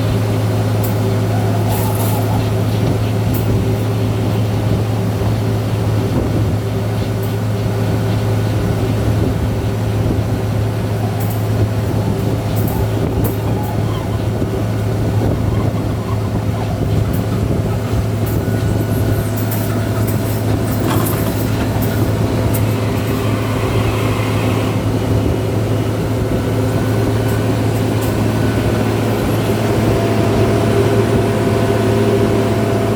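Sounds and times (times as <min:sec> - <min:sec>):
drilling machine engine hum: 0:00.0 - 0:32.9.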